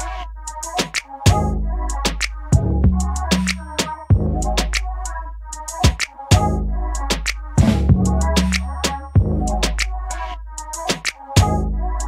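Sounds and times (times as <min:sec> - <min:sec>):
music with drum beat and bass: 0:00.0 - 0:11.7.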